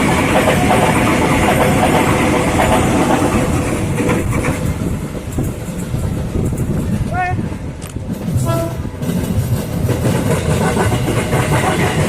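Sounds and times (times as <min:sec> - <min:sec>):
steady train hum: 0:00.0 - 0:12.0
train wheels rumbling on rails: 0:00.0 - 0:12.0.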